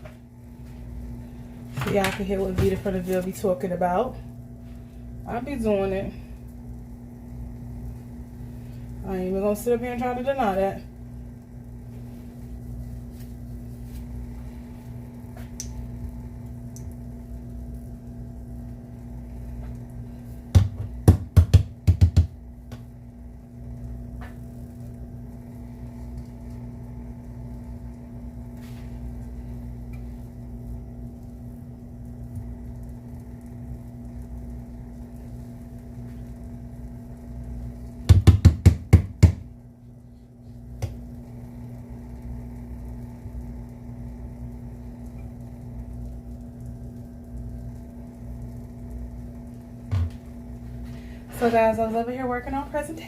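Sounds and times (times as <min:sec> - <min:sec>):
low kitchen hum: 0:00.0 - 0:53.0.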